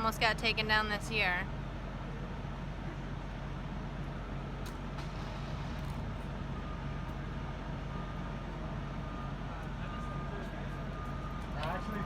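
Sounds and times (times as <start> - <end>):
idling vehicles hum: 0.0 - 12.0.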